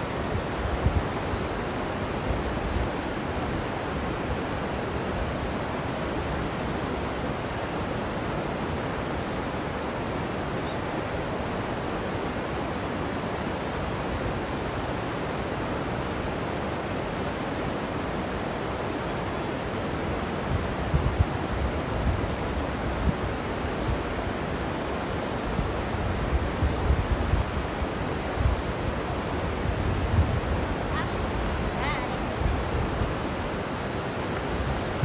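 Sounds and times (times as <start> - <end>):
river running over rocks: 0.0 - 35.0.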